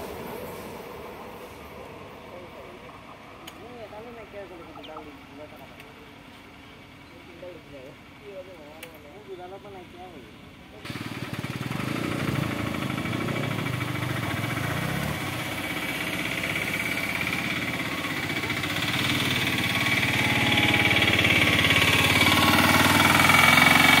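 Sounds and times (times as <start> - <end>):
motorcycle engines idling: 0.0 - 24.0.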